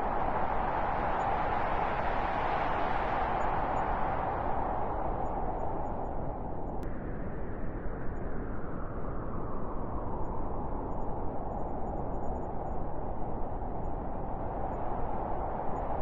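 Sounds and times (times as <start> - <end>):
steady rushing wind: 0.0 - 16.0.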